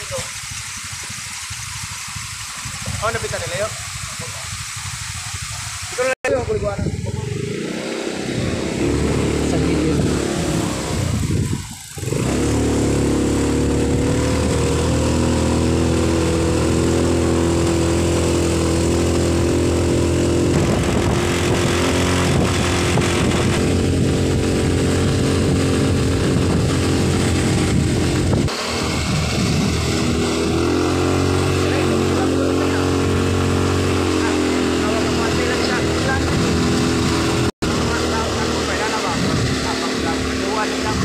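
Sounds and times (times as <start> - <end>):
wind and road noise: 0.0 - 41.0
small motorcycle engine cruising: 6.3 - 41.0.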